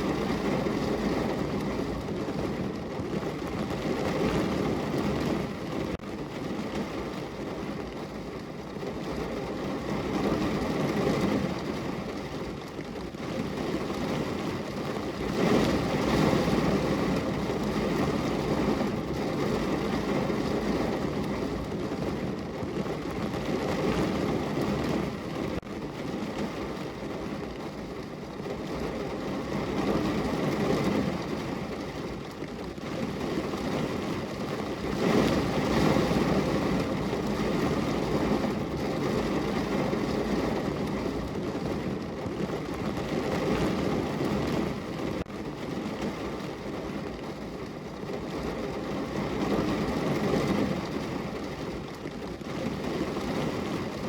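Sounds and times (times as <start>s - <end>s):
heavy rain on car roof: 0.0s - 54.0s.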